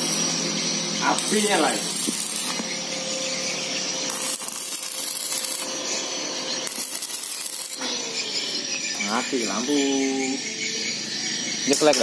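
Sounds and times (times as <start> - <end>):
arc welder crackling: 0.0 - 12.0.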